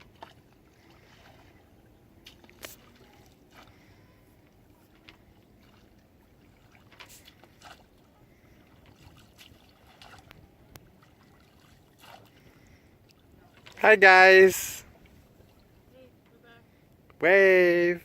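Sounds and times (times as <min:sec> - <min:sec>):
faint water lapping: 0:00.0 - 0:17.2.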